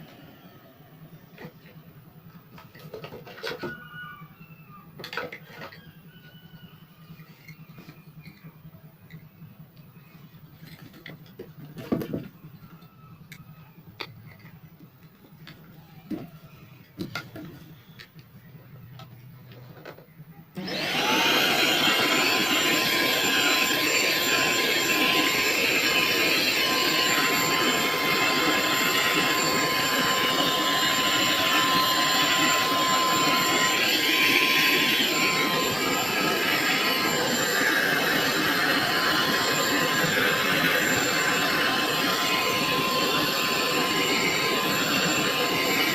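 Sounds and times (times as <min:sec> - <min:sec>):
vacuum cleaner running: 0:00.0 - 0:08.5, 0:10.0 - 0:13.0, 0:19.5 - 0:45.9.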